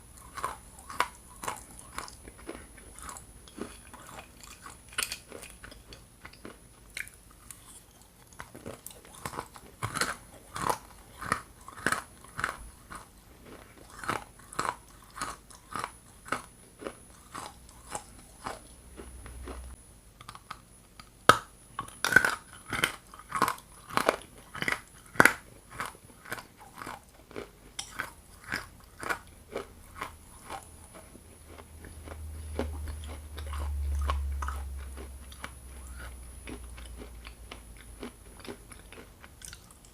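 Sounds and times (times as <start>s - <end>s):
chewing hard clay crunches: 0.1s - 39.9s.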